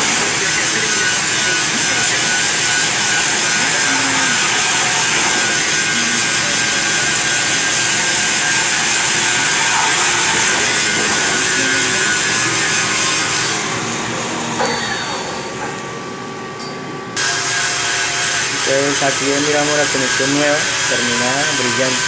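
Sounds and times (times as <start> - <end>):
lathe machining hiss: 0.0 - 16.1, 17.2 - 22.0.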